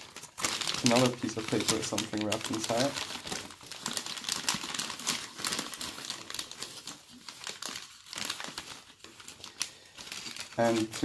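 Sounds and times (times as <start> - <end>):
newspaper crinkling and rustling: 0.0 - 11.0.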